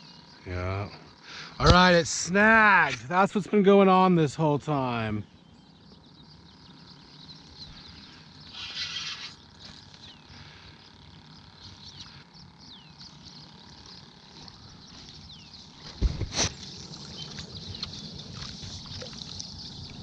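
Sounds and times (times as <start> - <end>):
descending bird calls: 0.0 - 20.0.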